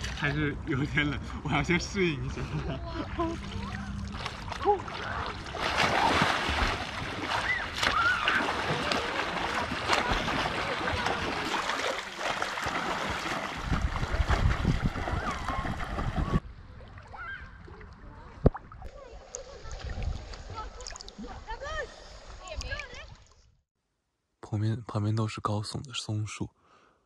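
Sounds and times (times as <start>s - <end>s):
water lapping: 0.0s - 23.5s
water splashing and sloshing: 0.0s - 23.6s.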